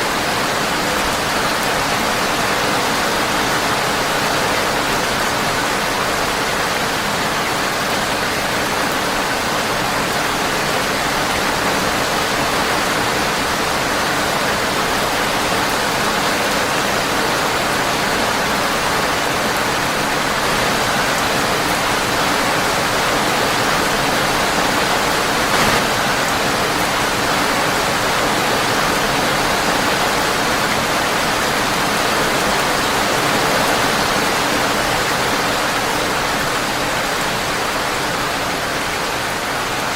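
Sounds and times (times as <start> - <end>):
rain on a windowpane: 0.0 - 39.9.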